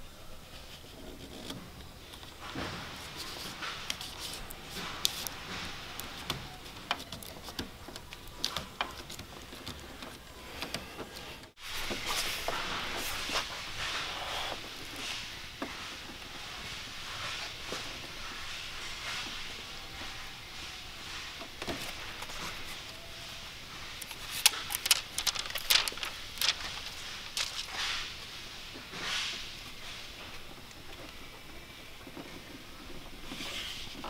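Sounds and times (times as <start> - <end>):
background hiss: 0.0 - 34.0.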